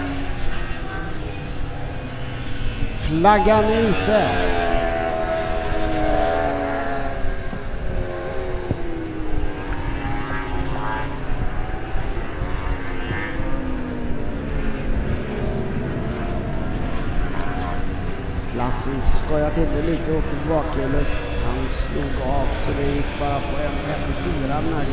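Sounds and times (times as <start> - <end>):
racing motorcycles passing: 0.0 - 24.9.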